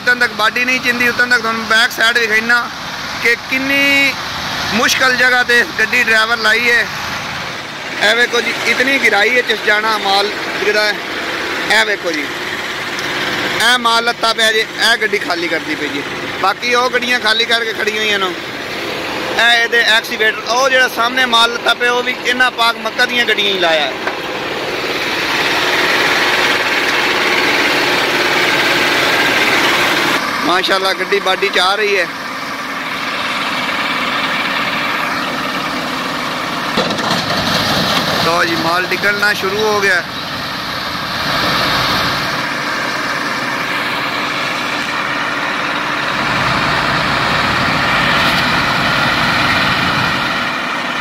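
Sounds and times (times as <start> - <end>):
truck diesel engine running: 0.0 - 51.0.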